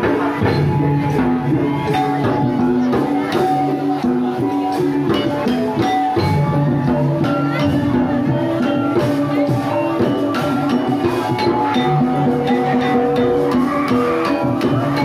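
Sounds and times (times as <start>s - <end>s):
ensemble of pitched percussion and drums: 0.0s - 15.0s.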